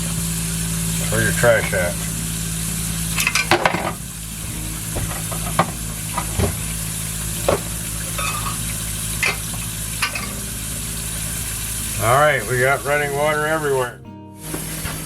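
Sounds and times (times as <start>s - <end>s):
water pump humming: 0.0s - 15.0s
water running from faucet: 0.0s - 15.0s.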